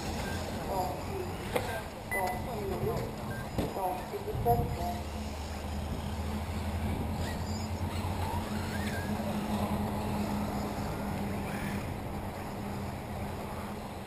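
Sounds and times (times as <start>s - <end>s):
electric motors whining: 0.0s - 14.0s
steady low hum: 0.0s - 14.0s.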